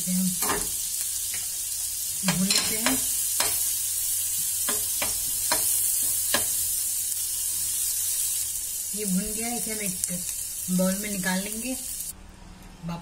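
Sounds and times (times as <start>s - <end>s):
garlic sizzling in a frying pan: 0.0s - 12.1s.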